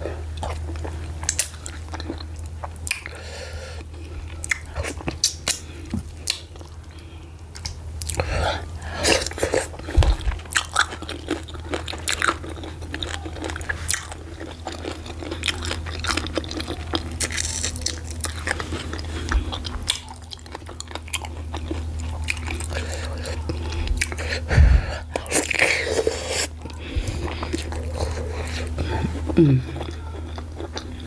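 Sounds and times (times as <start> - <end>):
person chewing with mouth smacks: 0.4 - 3.2, 3.9 - 8.3, 9.0 - 31.0.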